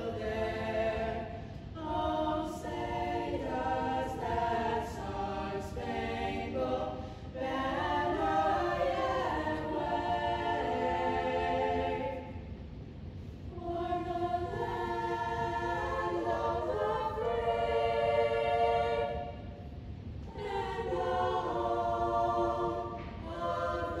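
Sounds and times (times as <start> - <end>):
women's choir singing: 0.0 - 12.5, 13.5 - 19.6, 20.2 - 24.0.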